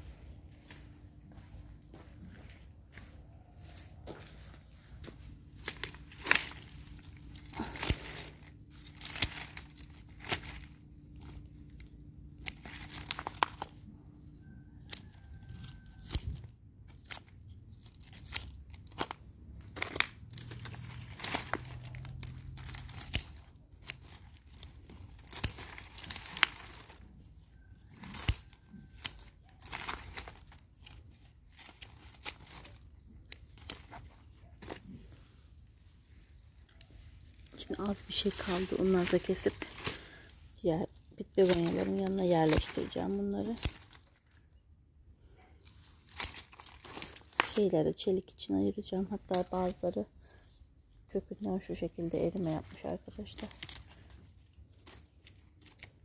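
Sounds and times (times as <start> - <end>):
leaves and stems tearing and rustling: 2.9 - 56.0.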